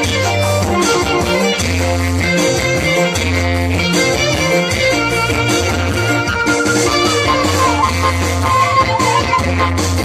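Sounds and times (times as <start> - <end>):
bass line: 0.0 - 10.0
loud dance music: 0.0 - 10.0
pitched melody: 0.0 - 10.0.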